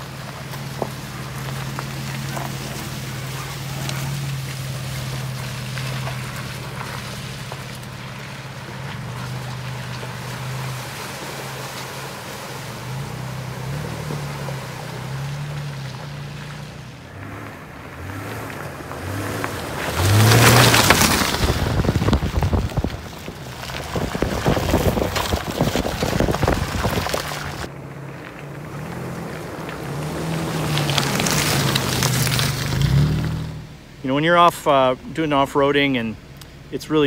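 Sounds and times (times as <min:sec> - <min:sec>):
water and mud splashing: 0:00.0 - 0:36.1
suv engine revving: 0:00.0 - 0:36.8.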